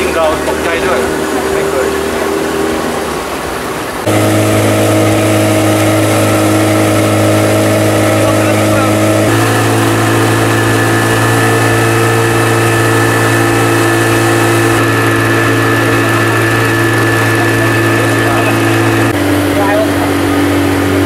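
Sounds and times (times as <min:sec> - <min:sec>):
outboard boat motor running: 0:00.0 - 0:21.0.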